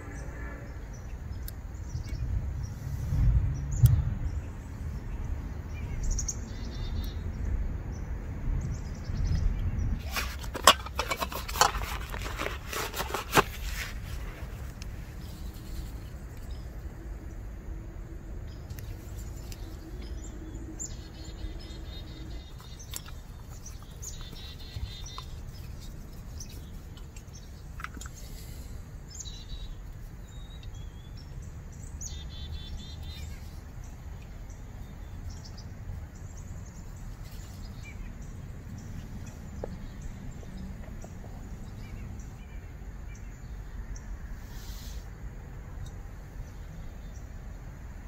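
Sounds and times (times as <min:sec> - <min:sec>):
low outdoor rumble: 0:00.0 - 0:48.0
songbirds chirping: 0:00.0 - 0:48.0.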